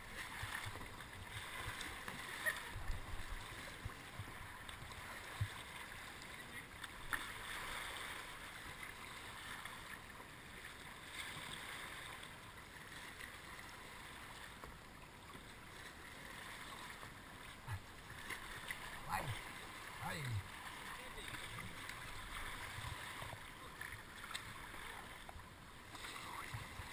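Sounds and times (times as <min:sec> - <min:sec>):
river water rushing and babbling: 0:00.0 - 0:26.9.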